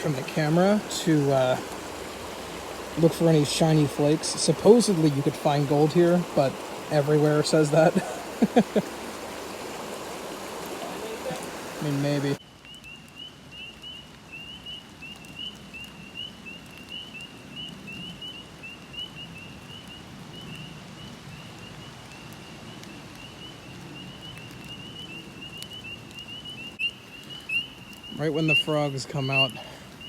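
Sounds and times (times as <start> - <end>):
frogs peeping in chorus: 0.0 - 30.0
stream water running: 0.0 - 30.0.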